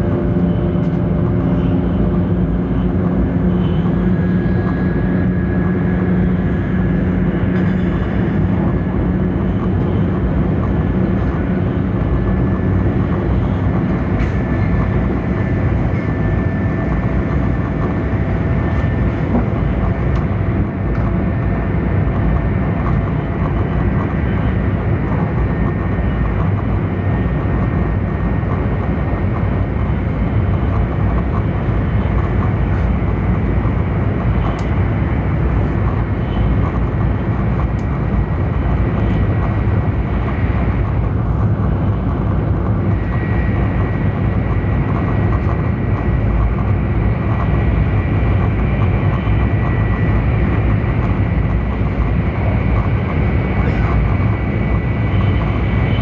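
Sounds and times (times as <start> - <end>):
train cabin rumble and rush: 0.0 - 56.0.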